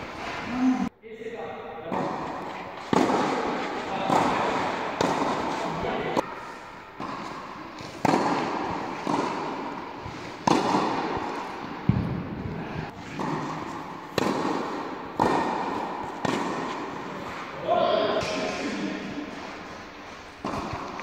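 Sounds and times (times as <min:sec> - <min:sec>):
tennis balls struck with rackets: 0:01.9 - 0:21.0.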